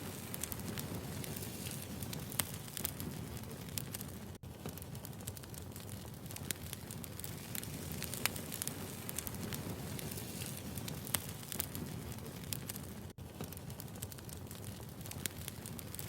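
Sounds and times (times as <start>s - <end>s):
firewood burning and crackling: 0.0s - 16.0s.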